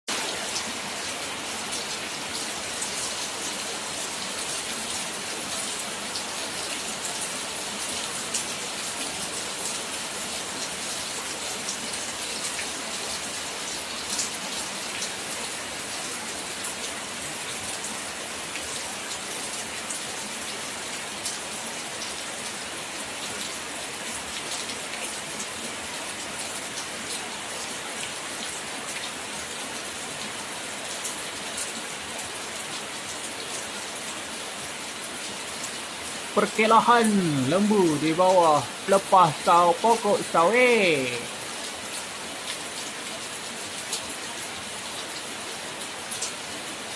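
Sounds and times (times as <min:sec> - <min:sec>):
rain falling: 0:00.1 - 0:46.9.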